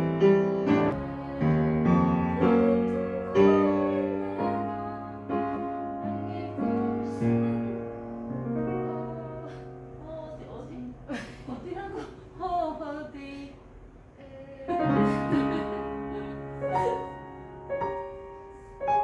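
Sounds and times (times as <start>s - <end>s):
piano chords: 0.0s - 13.1s, 14.5s - 19.0s.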